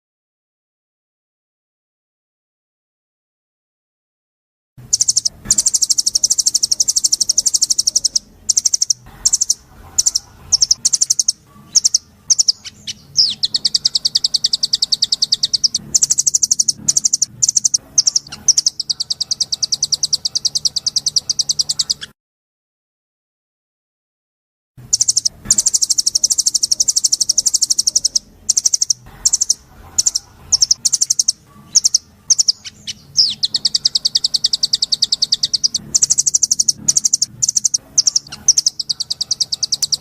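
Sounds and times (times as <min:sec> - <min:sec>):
bird sweeping notes: 0:04.9 - 0:22.1, 0:24.9 - 0:40.0
songbird high trills: 0:04.9 - 0:22.1, 0:24.9 - 0:40.0.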